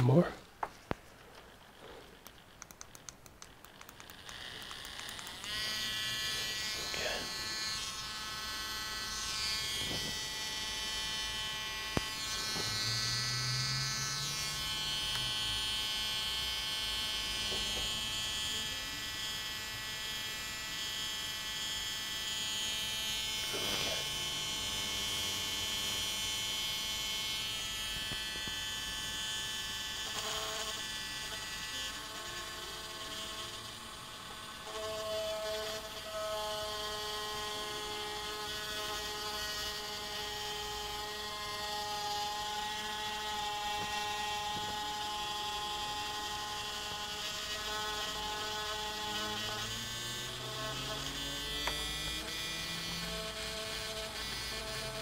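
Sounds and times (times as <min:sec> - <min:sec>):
electric polishing tool whining: 0:03.6 - 0:55.0.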